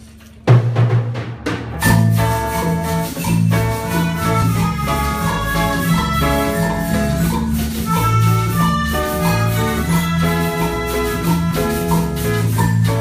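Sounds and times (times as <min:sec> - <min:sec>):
drum kit: 0:00.0 - 0:13.0
electric bass: 0:00.0 - 0:13.0
hand drums: 0:00.4 - 0:13.0
melodicas playing a melody: 0:01.6 - 0:13.0
xylophones struck with mallets: 0:01.7 - 0:13.0.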